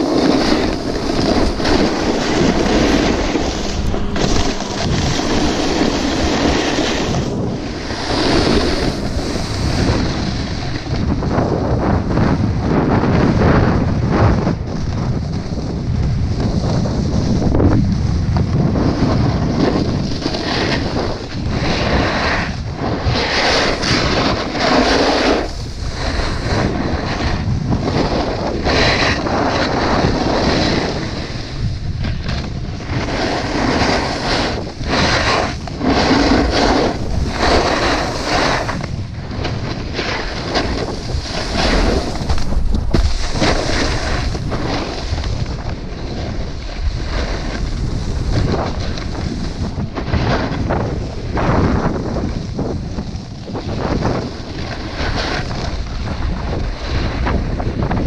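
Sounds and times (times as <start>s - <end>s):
snowboard scraping over hard snow: 0.0s - 58.0s
wind rushing over microphone: 0.0s - 58.0s.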